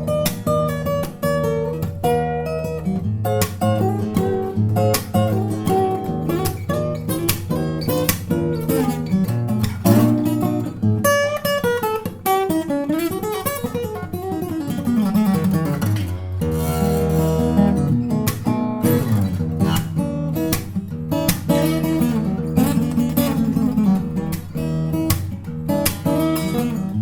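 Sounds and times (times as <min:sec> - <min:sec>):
acoustic guitar strumming and picking: 0:00.0 - 0:27.0.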